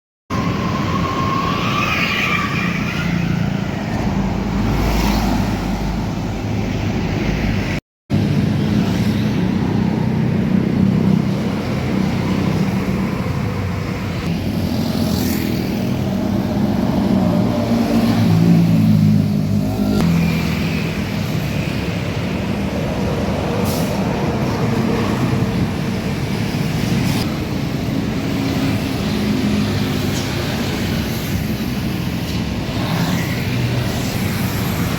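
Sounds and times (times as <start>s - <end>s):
heavy vehicles rumbling past: 2.7s - 34.9s.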